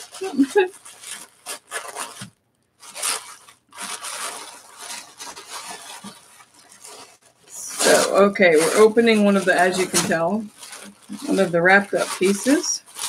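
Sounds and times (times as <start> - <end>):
wrapping paper tearing and rustling: 0.0 - 13.0.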